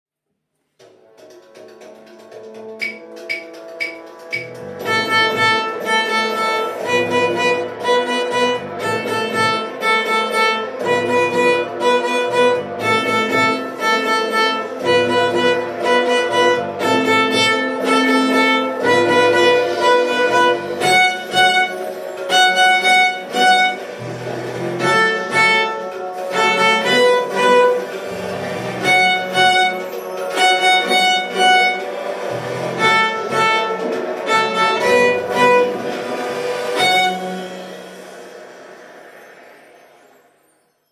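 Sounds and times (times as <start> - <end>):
backing accompaniment with bass: 0.9 - 38.2
violin melody: 1.8 - 38.4.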